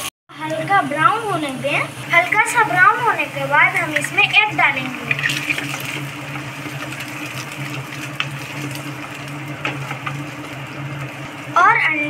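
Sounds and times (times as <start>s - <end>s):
eggs sizzling in a pan: 0.0s - 12.0s
electric hum of cooktop: 0.0s - 12.0s.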